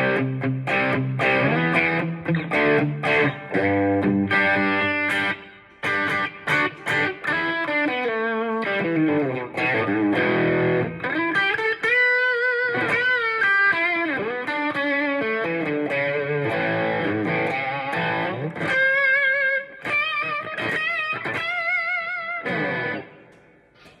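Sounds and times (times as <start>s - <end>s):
electric guitar lead lines: 0.0s - 24.0s.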